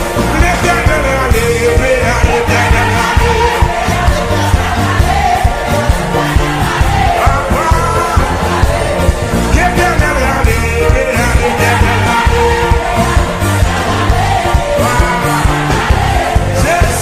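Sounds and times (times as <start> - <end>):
band with steady bass beat: 0.0 - 17.0
person singing gospel: 0.0 - 17.0.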